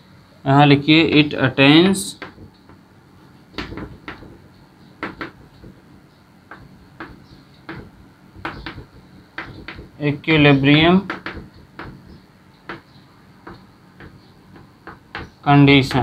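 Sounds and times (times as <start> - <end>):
chalk tapping and scraping on blackboard: 2.0 - 2.8, 3.4 - 15.4.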